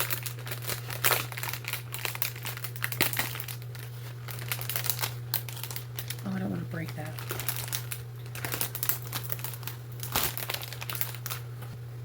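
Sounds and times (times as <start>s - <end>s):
plastic packaging crinkling: 0.0s - 11.7s
steady low hum: 0.0s - 12.0s.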